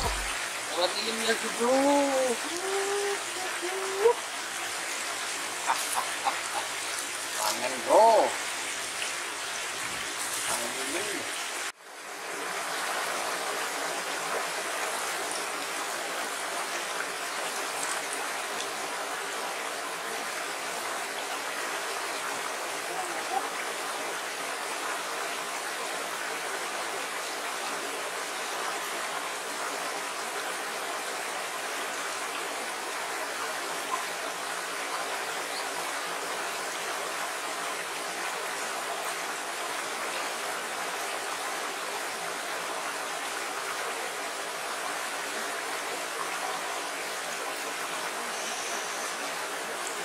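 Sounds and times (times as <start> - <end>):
water rushing over stones: 0.0 - 50.0.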